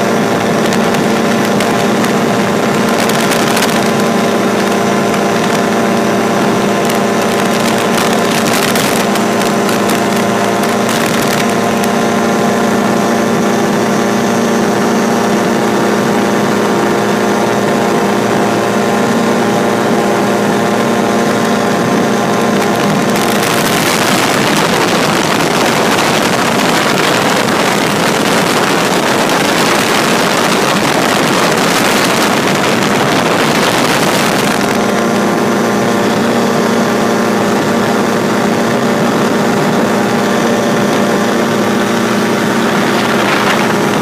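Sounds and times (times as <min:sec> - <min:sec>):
light aircraft engine in flight: 0:00.0 - 0:44.0
rushing noise: 0:00.0 - 0:44.0.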